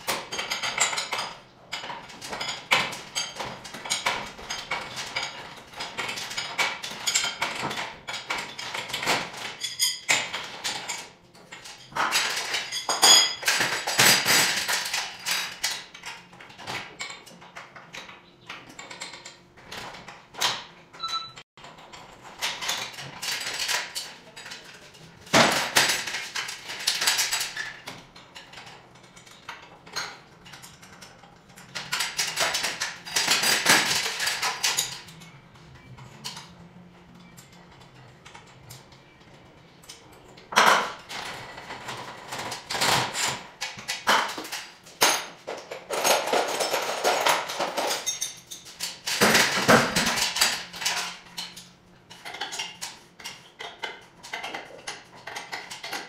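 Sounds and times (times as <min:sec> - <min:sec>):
metal tools clinking and clanking: 0:00.0 - 0:36.6, 0:37.2 - 0:56.0.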